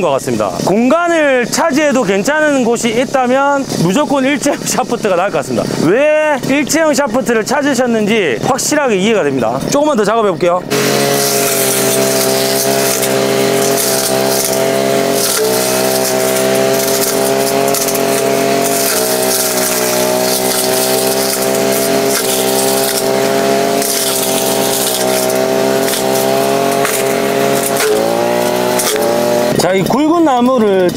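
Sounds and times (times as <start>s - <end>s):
brush cutter running: 0.0s - 9.8s, 10.4s - 30.9s.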